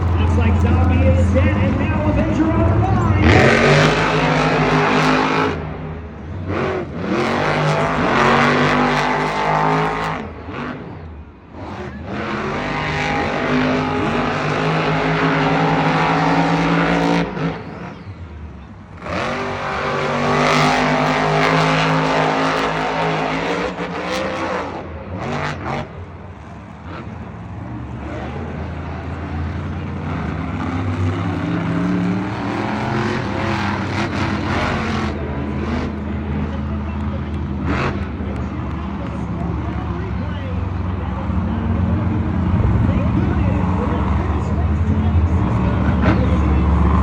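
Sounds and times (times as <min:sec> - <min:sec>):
truck engines revving hard: 0:00.0 - 0:47.0.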